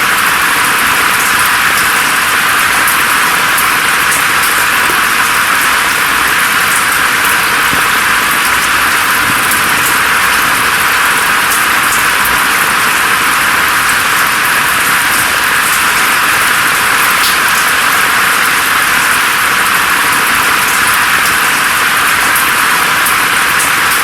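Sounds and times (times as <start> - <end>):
rain falling through foliage: 0.0 - 24.0
raindrop ticks: 0.1 - 24.0.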